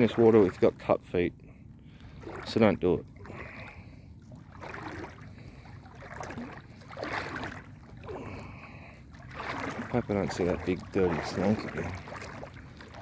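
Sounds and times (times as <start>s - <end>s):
wading splashes in water: 0.0s - 13.0s.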